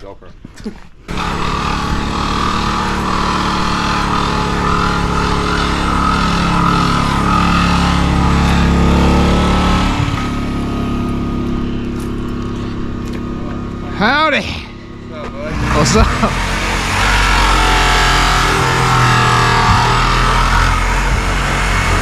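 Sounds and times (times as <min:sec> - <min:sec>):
car engine running: 0:01.1 - 0:22.0.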